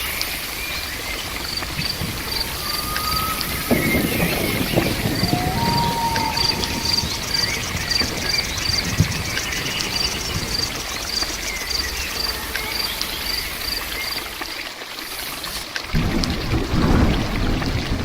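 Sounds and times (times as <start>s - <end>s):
insect chirping: 0.0s - 15.6s
steady rain: 0.0s - 18.0s.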